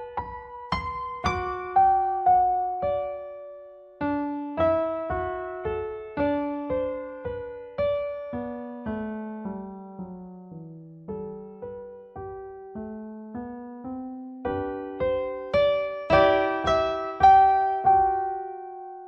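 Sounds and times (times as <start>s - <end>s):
solo piano playing single notes: 0.0s - 19.0s.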